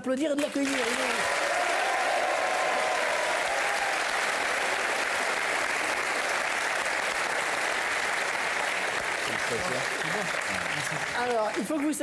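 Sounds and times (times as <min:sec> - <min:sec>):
audience applauding: 0:00.4 - 0:12.0.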